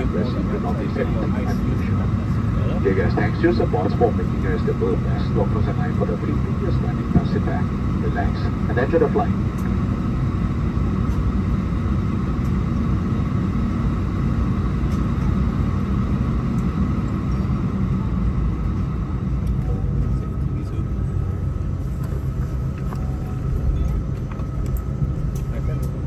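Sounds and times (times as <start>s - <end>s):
faint engine whine: 0.0s - 26.0s
jet engine rumble in cabin: 0.0s - 26.0s.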